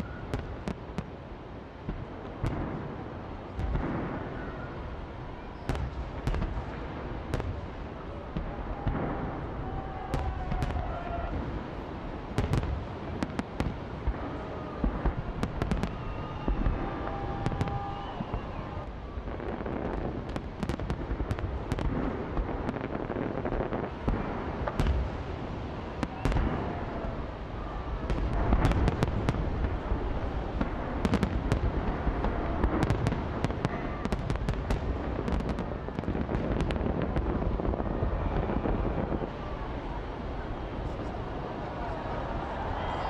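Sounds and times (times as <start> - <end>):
fireworks rumbling: 0.0 - 43.0
fireworks sharp bangs: 1.8 - 43.0.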